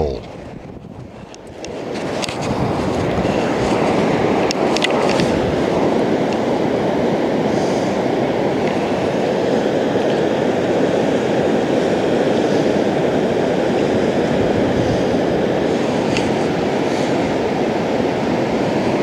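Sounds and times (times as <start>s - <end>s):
low rushing roar: 0.0s - 19.0s.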